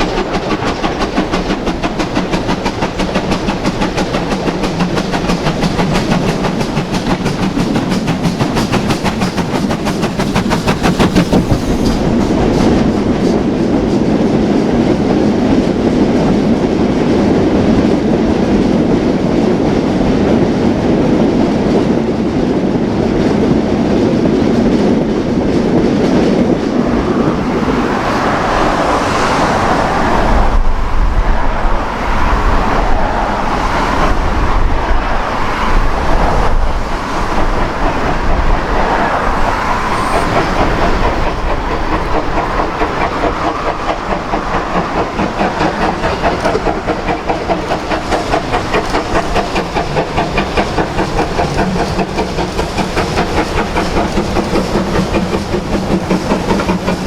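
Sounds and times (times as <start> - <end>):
steam train rhythmic beats: 0.0 - 15.1, 24.6 - 57.0
train rumbling by: 0.0 - 57.0.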